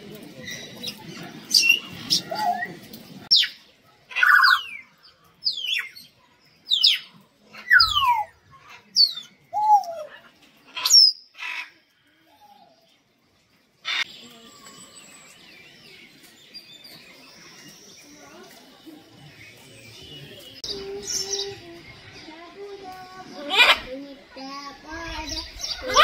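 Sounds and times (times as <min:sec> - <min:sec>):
mixed bird chatter: 0:00.0 - 0:26.0.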